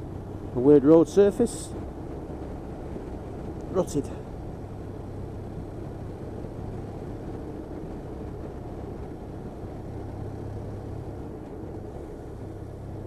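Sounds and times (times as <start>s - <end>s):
motorcycle engine cruising: 0.0s - 13.0s
tyre and wind noise: 0.0s - 13.0s.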